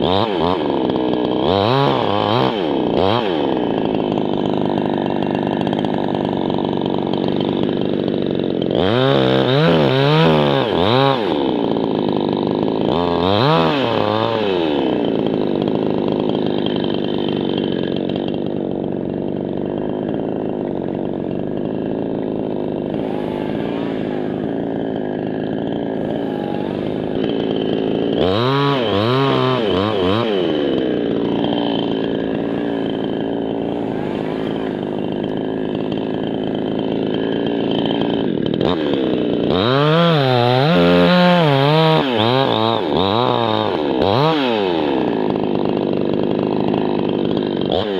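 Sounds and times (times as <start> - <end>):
chainsaw engine revving: 0.0 - 47.9.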